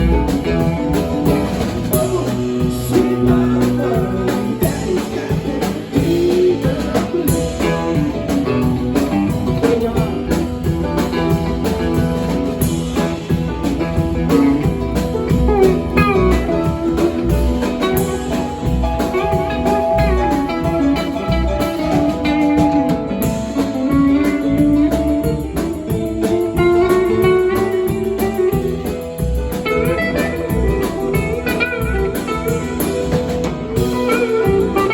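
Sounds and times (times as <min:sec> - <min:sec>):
blues guitar with bent notes: 0:00.0 - 0:34.9
steady drum beat: 0:00.0 - 0:34.9.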